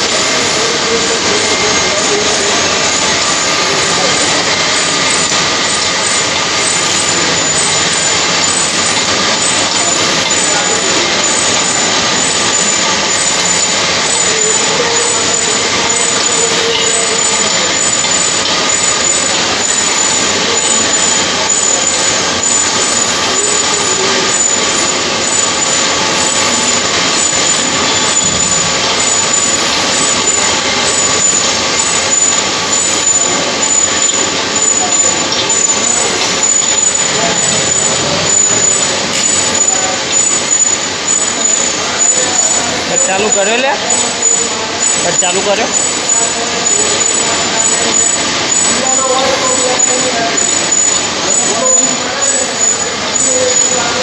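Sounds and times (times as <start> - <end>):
heavy industrial machinery running: 0.0 - 54.0.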